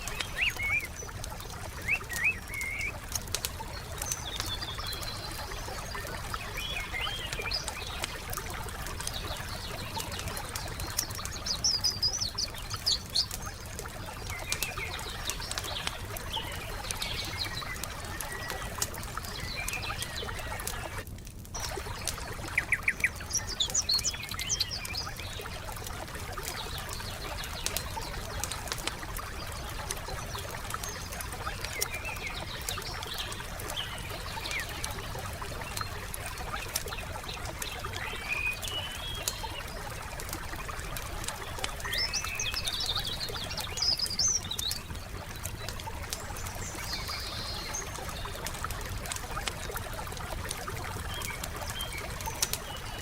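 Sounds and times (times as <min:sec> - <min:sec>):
songbirds chirping: 0:00.0 - 0:21.0, 0:21.6 - 0:53.0
campfire crackling: 0:00.0 - 0:53.0
trickling water: 0:00.0 - 0:53.0.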